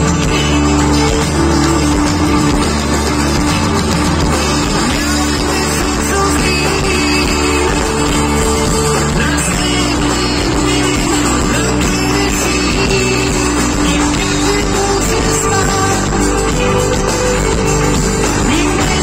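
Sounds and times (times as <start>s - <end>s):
acoustic guitar: 0.0s - 19.0s
keyboards: 0.0s - 19.0s
live rock band through pa: 0.0s - 19.0s.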